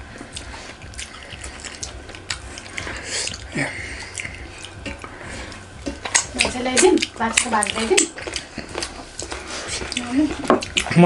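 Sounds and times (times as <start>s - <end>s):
chewing and lip smacks: 0.1s - 11.0s.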